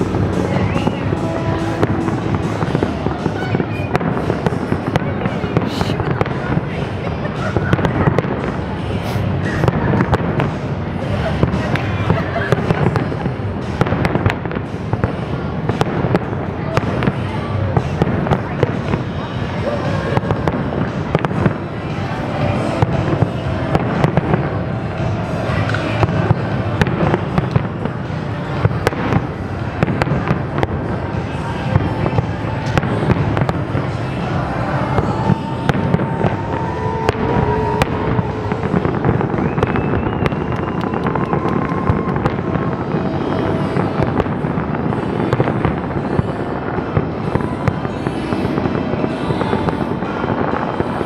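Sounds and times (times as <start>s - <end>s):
continuous rumble: 0.0s - 51.0s
fireworks bursts and bangs: 0.0s - 51.0s.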